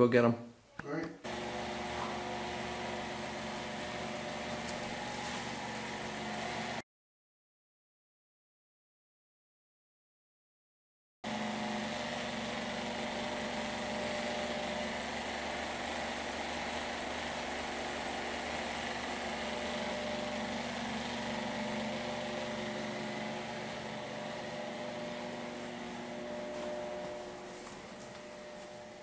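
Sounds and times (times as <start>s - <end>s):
electric pump humming: 1.2s - 6.8s, 11.2s - 29.0s.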